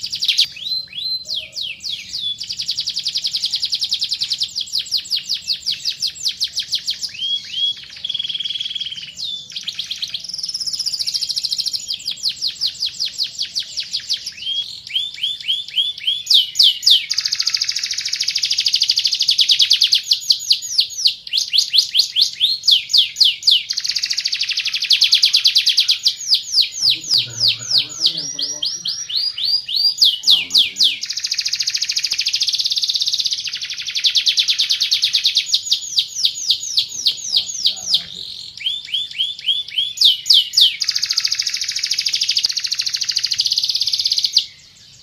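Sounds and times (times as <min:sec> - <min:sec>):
canary singing trills: 0:00.0 - 0:45.0.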